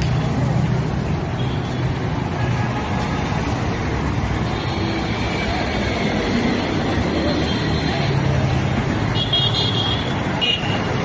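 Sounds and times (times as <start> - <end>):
buses passing: 0.0 - 11.0
din of engines and tyres: 0.0 - 11.0.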